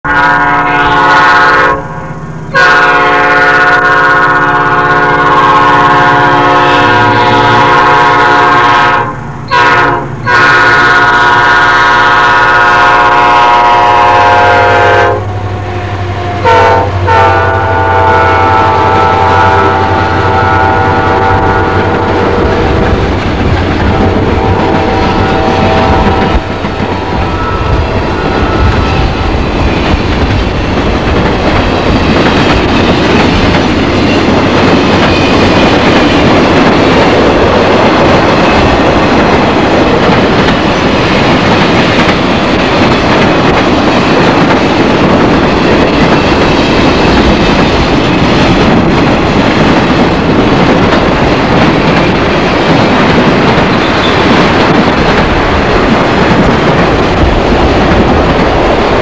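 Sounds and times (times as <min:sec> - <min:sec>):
train rumbling over track: 0:00.0 - 0:59.0.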